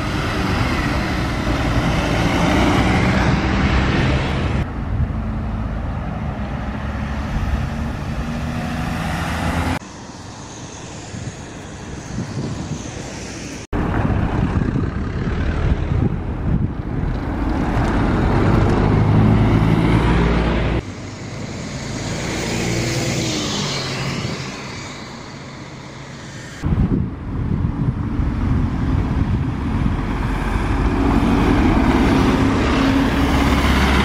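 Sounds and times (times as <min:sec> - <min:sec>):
bus engine hum passing: 0:00.0 - 0:34.0
road traffic: 0:00.0 - 0:34.0.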